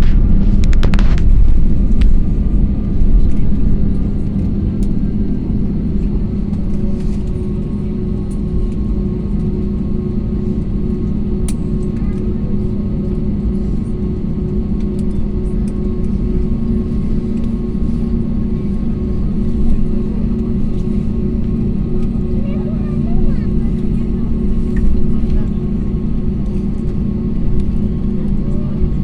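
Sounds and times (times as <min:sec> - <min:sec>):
airplane engine rumble: 0:00.0 - 0:29.0.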